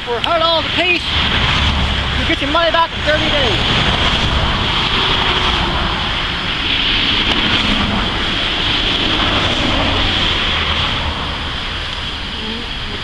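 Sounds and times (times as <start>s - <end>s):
highway traffic: 0.0s - 13.0s
wind on microphone: 0.0s - 13.0s.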